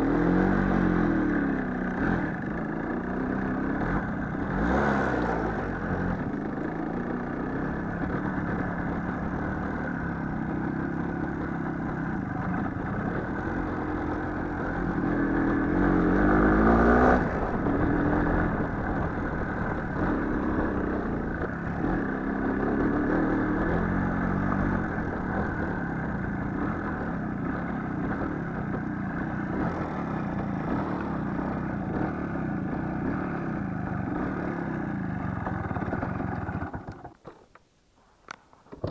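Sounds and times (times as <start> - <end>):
small motorcycle engine revving: 0.0 - 37.6.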